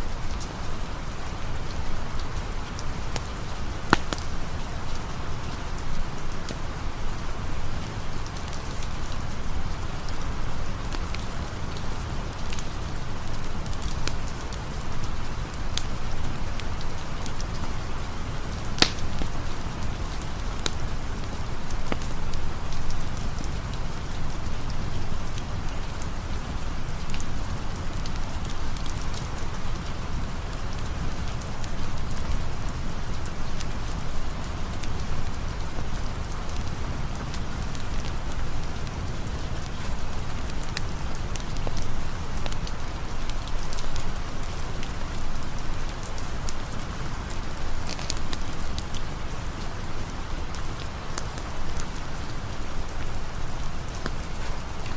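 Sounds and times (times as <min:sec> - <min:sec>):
campfire crackling and popping: 0:00.0 - 0:54.9
steady rain falling: 0:00.0 - 0:54.9.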